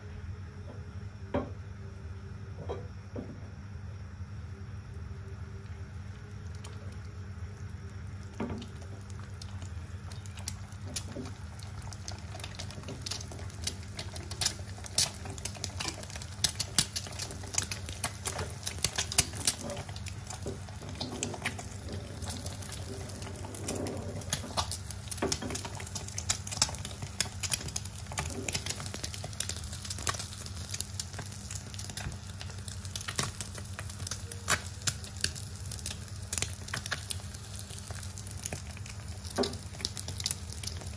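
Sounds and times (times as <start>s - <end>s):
eggs frying in oil: 3.6s - 40.9s.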